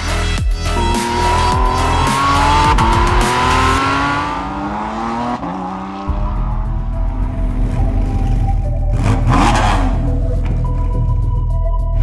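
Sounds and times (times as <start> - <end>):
music with deep pulsing bass: 0.0 - 12.0
race car engine accelerating: 0.7 - 10.9.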